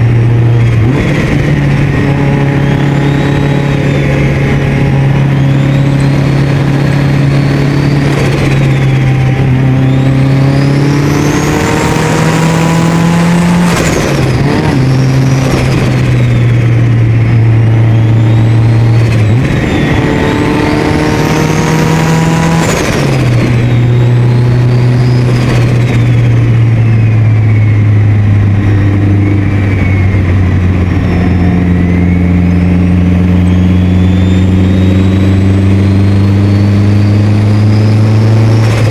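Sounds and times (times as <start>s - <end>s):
car engine pulling under load: 0.0s - 38.9s
turbo whistle: 0.0s - 38.9s.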